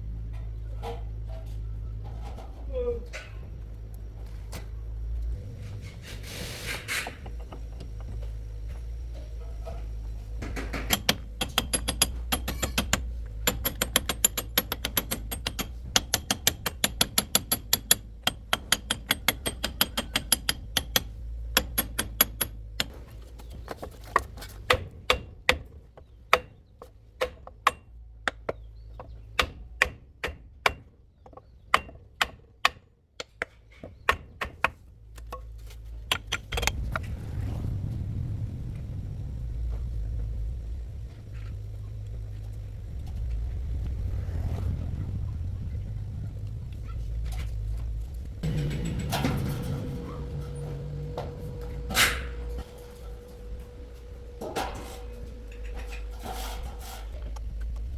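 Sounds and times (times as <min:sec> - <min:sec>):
low mechanical hum: 0:00.0 - 0:57.9.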